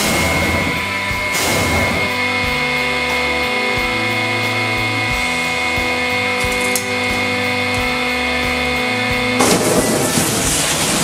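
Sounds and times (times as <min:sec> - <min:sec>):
hydraulic press motor hum: 0:00.0 - 0:11.0.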